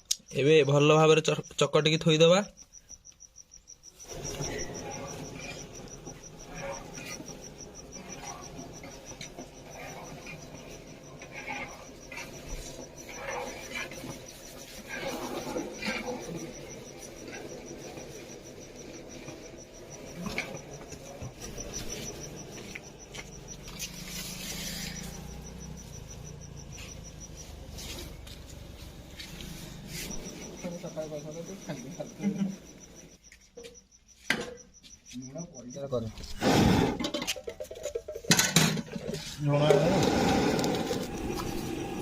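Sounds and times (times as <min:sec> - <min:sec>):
insect trilling: 0:00.0 - 0:42.0.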